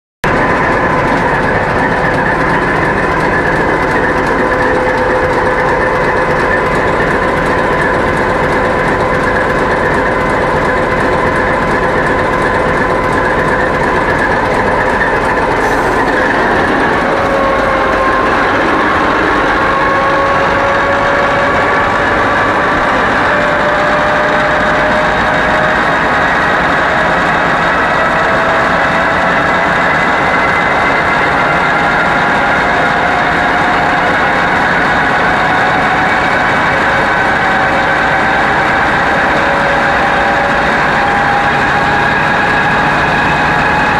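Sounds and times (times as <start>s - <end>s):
diesel locomotive engine whining: 0.2s - 43.9s.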